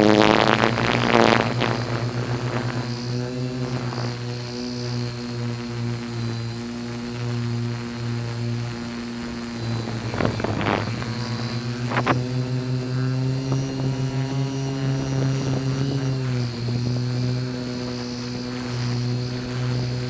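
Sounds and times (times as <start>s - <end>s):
drone motors and propellers humming: 0.0s - 20.0s.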